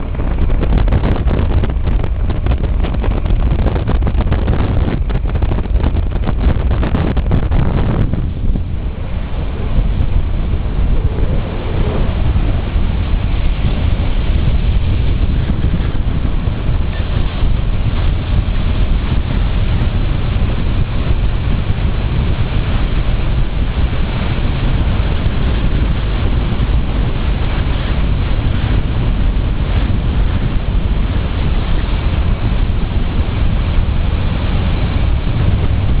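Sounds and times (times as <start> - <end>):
rush of riding motorcycle: 0.0 - 36.0
wind buffeting microphone: 0.0 - 36.0.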